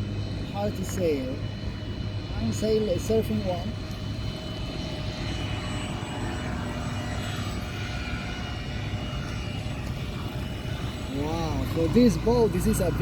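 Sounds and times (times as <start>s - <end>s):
boat motor drone: 0.0s - 13.0s
faint high-pitched whines: 0.0s - 13.0s.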